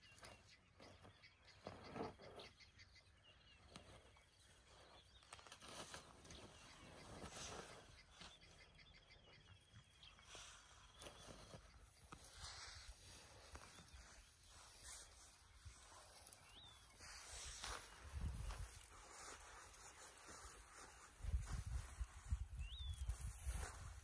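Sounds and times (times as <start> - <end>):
faint high bird chirps: 0.0 - 24.0
faint outdoor ambience: 0.0 - 24.0.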